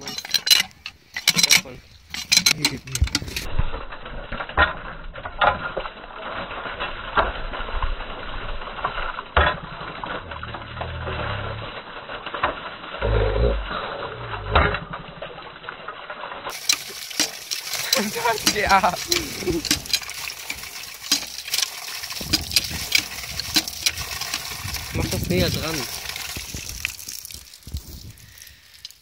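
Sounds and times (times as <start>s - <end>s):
water splashing onto metal grate: 0.0s - 29.0s.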